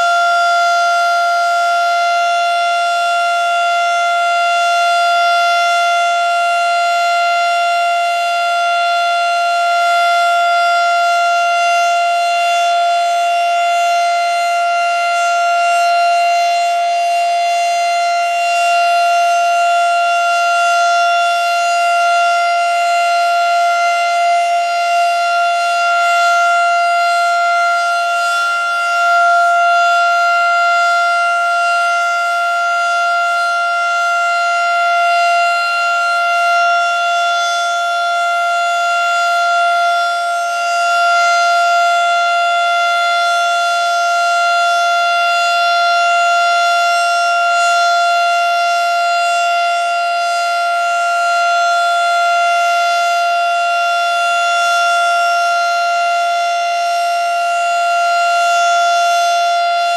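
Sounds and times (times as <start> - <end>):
warning siren steady tone: 0.0 - 59.9.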